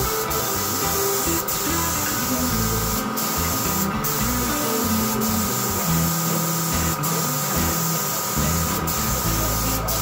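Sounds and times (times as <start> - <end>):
spray gun hissing: 0.0 - 10.0.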